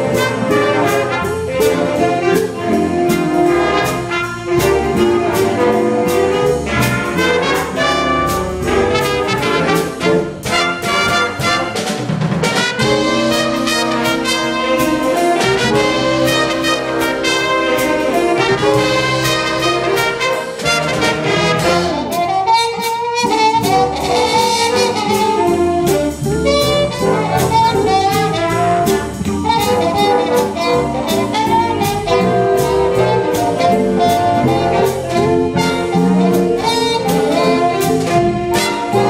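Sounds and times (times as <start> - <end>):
drum kit beat: 0.0 - 39.0
saxophones and brass: 0.0 - 39.0.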